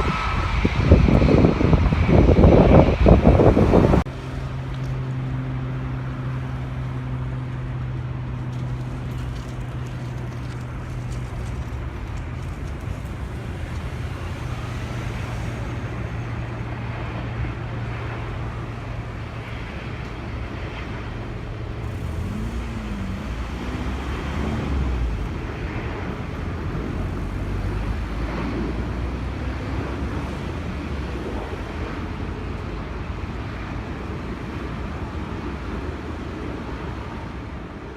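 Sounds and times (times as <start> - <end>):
vehicle engine hum: 0.0 - 37.9.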